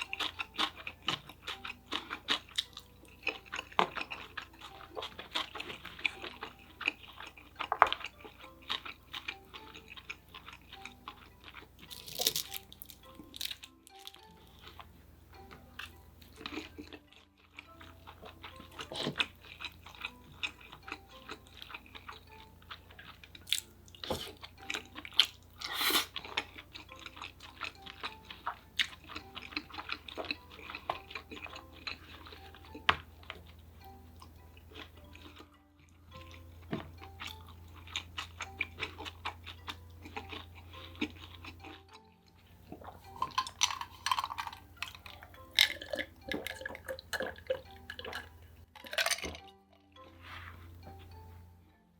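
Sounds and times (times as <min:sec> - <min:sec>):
chewing and biting food: 0:00.0 - 0:51.3.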